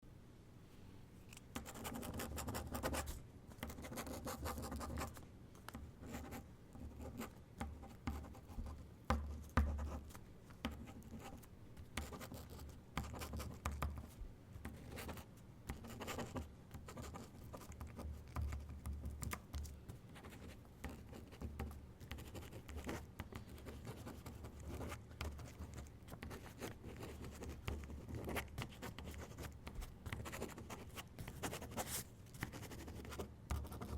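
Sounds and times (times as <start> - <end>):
pen scratching on paper: 1.6 - 5.2, 6.0 - 10.0, 10.6 - 14.1, 14.7 - 33.9.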